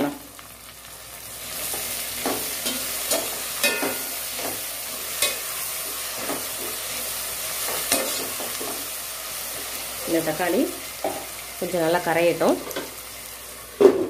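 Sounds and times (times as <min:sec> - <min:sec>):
tomatoes sizzling in hot oil: 0:00.0 - 0:14.0.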